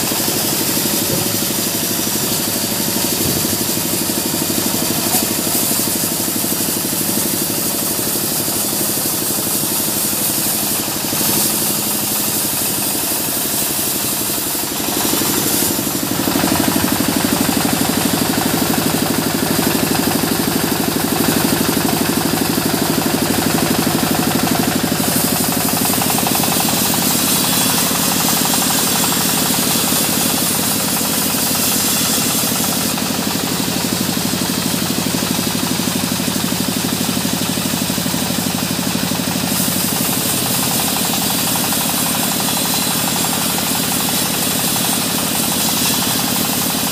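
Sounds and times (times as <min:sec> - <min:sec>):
band saw cutting log: 0:00.0 - 0:46.9.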